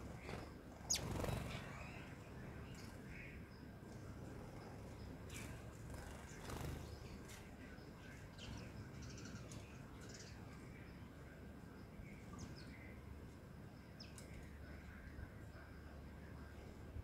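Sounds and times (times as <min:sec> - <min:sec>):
sparrows chirping: 0:00.0 - 0:16.6.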